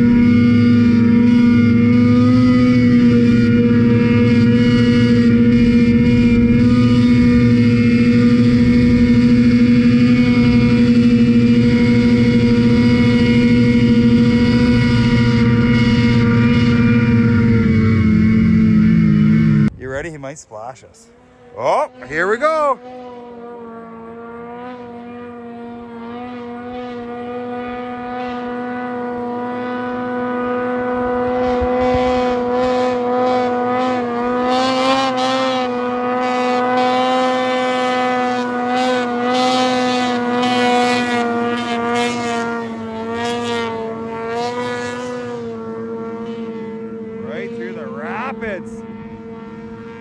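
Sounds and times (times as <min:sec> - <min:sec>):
snowmobile engine high pitch: 0:00.0 - 0:50.0.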